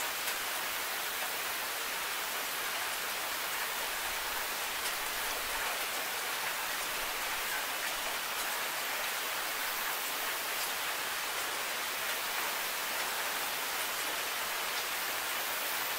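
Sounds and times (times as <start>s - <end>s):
steady rain hiss: 0.0s - 15.9s.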